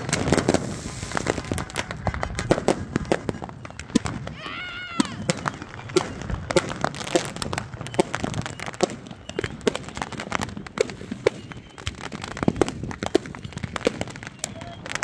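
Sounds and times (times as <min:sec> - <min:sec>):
fireworks popping and cracking: 0:00.0 - 0:15.0.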